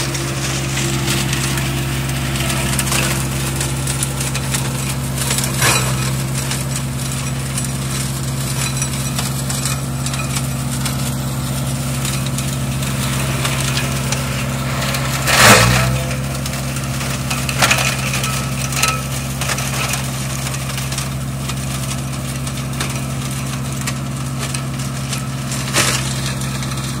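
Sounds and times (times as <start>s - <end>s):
tractor engine hum: 0.0s - 27.0s
branches cracking in mulcher: 0.2s - 27.0s.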